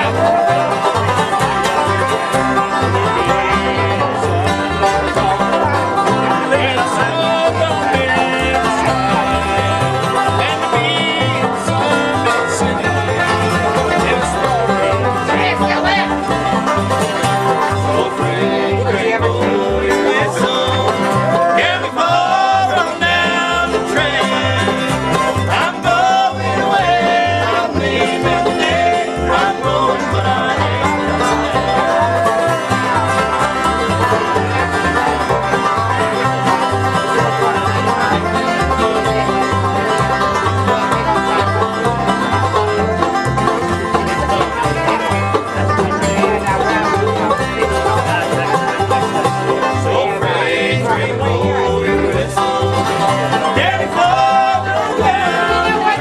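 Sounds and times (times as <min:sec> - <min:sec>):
acoustic guitars: 0:00.0 - 0:56.0
banjo: 0:00.0 - 0:56.0
upright bass plucking: 0:00.0 - 0:56.0.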